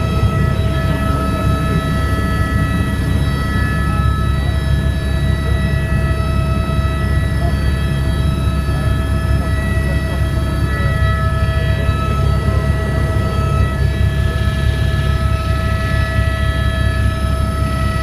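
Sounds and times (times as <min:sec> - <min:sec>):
helicopter low drone: 0:00.0 - 0:18.0
high whining tones: 0:00.0 - 0:18.0.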